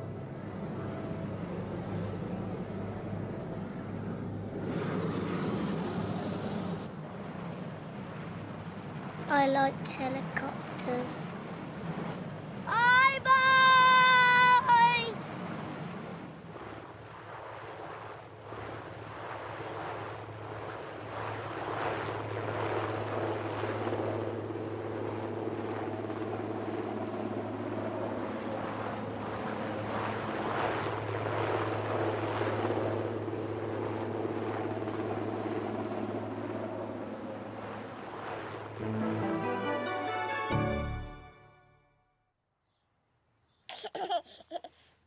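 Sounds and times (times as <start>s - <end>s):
helicopter rotor and turbine hum: 0.0s - 41.5s.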